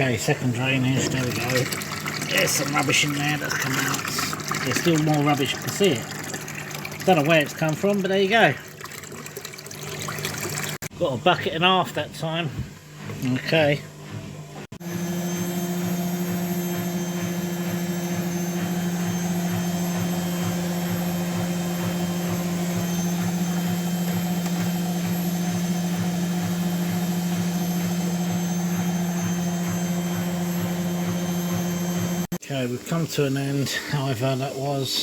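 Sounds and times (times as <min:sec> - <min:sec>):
washing machine humming: 0:00.0 - 0:34.9.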